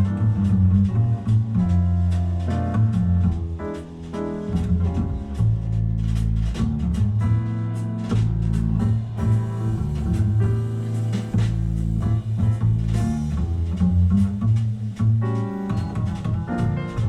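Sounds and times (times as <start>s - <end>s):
jazz guitar: 0.0s - 17.0s
plucked double bass: 0.0s - 17.0s.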